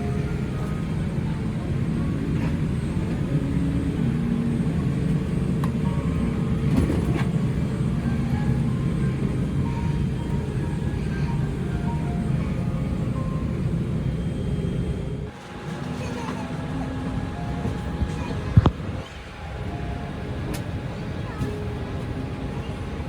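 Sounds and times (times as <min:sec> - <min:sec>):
air conditioning hum: 0:00.0 - 0:23.0
faint boarding music: 0:00.0 - 0:23.0.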